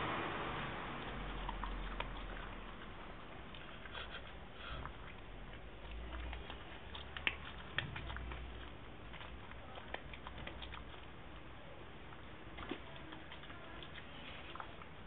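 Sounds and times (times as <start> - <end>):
dog crunching dry kibble: 1.0 - 15.0.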